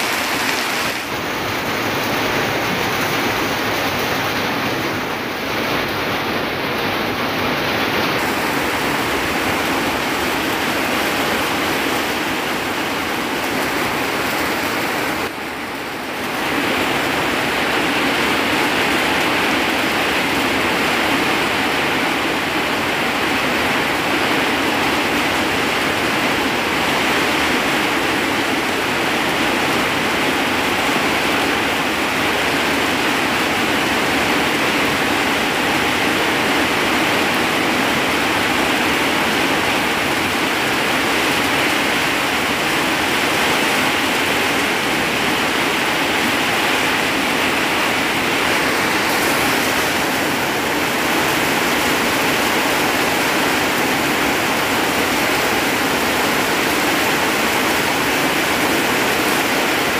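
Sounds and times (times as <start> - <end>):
heavy rain splashing into water: 0.0 - 59.9.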